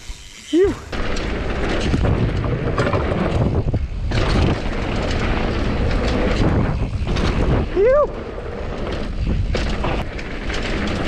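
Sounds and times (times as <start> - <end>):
bike chain and frame clattering: 0.0 - 11.0
tyres rumbling on dirt trail: 0.0 - 11.0
wind buffeting microphone: 0.1 - 11.0.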